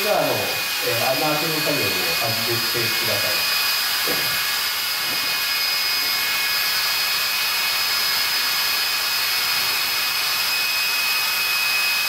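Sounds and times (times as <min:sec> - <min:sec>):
hammer drill whining: 0:00.0 - 0:12.0.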